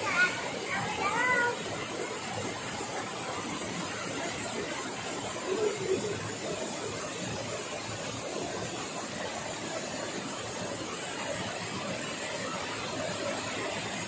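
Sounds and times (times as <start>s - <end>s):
waterfall rushing over rocks: 0.0s - 14.0s.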